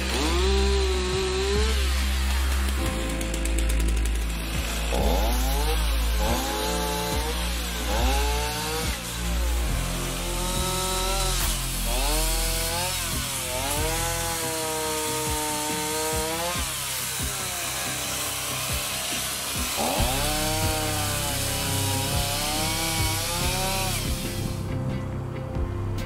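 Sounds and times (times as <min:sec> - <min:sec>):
chainsaw cutting wood revving: 0:00.0 - 0:25.3.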